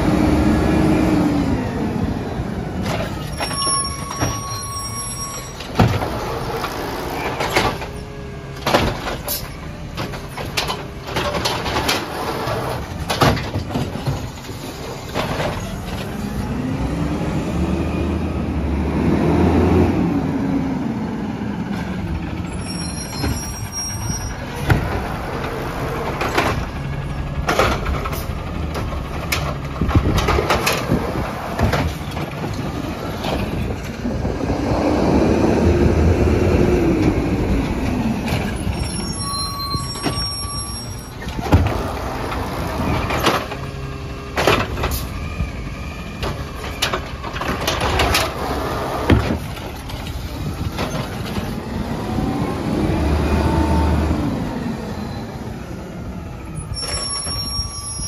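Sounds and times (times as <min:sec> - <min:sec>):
garbage truck engine running: 0:00.0 - 0:58.0.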